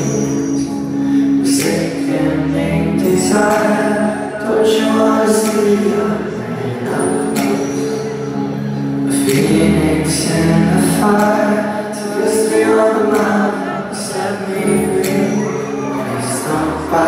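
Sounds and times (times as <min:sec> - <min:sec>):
live pop band music: 0:00.0 - 0:17.0.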